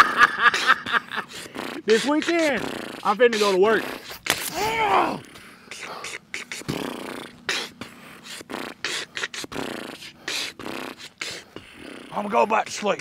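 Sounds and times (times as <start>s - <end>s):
man beatboxing: 0.5s - 13.0s.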